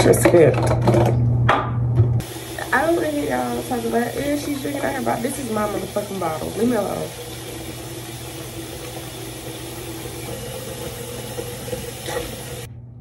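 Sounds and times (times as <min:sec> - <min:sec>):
tap running into sink: 0:02.2 - 0:12.7.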